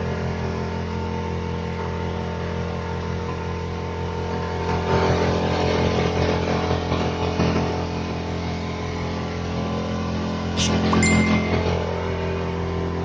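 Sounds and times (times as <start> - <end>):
small boat motor running: 0.0 - 13.0.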